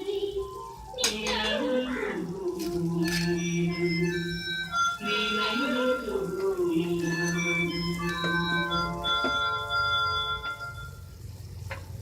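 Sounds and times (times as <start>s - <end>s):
instrumental film music: 0.0s - 11.2s.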